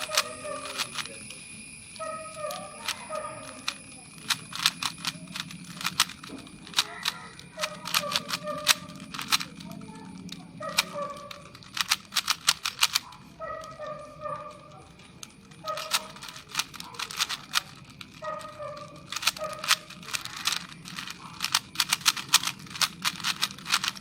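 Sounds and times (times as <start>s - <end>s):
plastic cube layers clicking: 0.0s - 1.2s, 2.0s - 13.7s, 15.2s - 24.0s.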